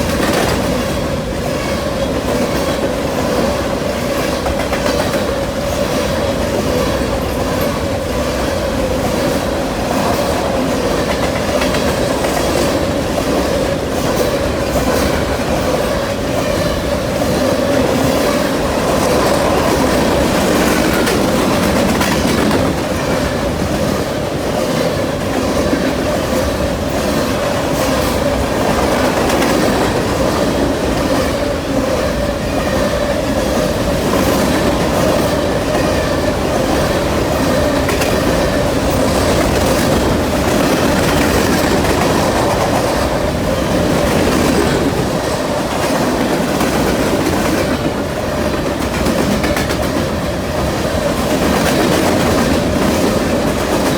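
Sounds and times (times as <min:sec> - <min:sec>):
freight train rolling past: 0:00.0 - 0:53.9
wheels clacking over rail joints: 0:00.0 - 0:53.9.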